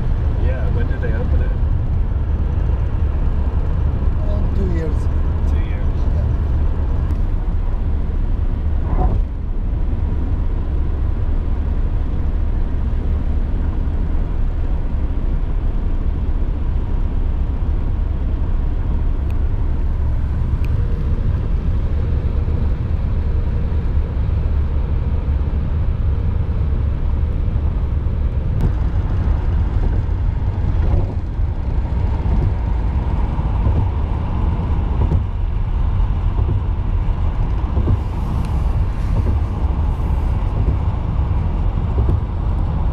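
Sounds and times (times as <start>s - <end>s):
car cabin road rumble: 0.0s - 42.9s.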